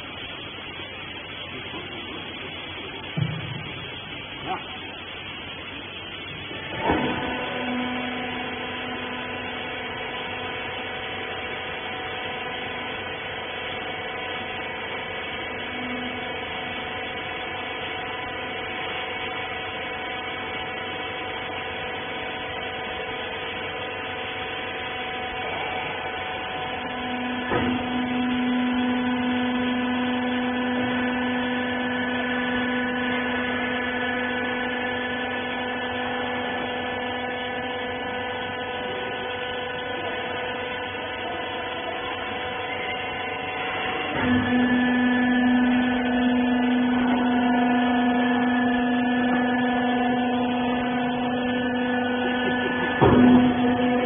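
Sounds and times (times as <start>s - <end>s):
hydraulic power unit humming: 0.0s - 54.0s.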